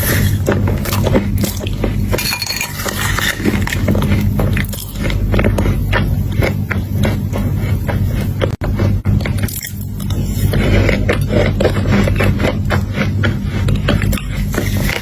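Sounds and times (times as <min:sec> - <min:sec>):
chewing and crunching chocolate: 0:00.0 - 0:15.0
steady low hum: 0:00.0 - 0:15.0.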